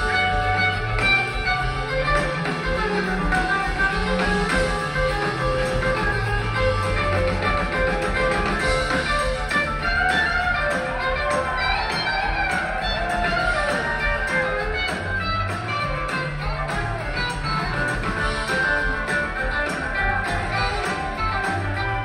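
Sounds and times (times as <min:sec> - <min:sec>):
electric guitar lead line: 0:00.0 - 0:22.0
rock band playing: 0:00.0 - 0:22.0.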